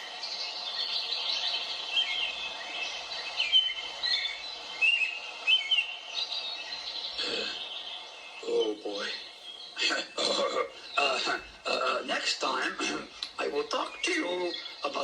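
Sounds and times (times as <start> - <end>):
background hiss: 0.0 - 15.0
birds chirping: 0.0 - 15.0.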